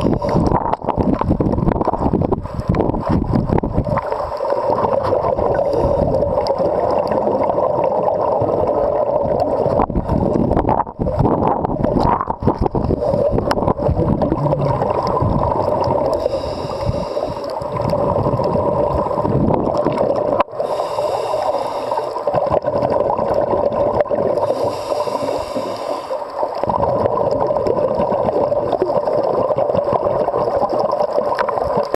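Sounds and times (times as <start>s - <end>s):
muffled underwater noise: 0.0s - 31.9s.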